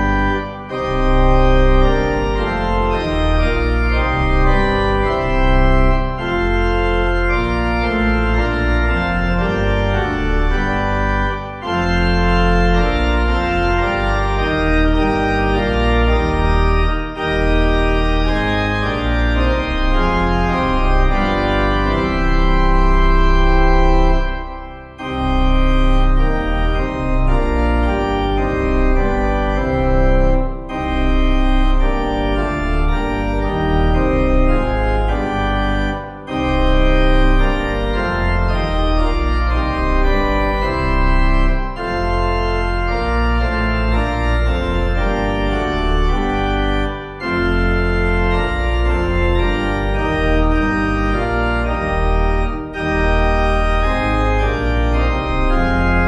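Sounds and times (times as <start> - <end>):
church organ playing hymn: 0.0 - 56.0.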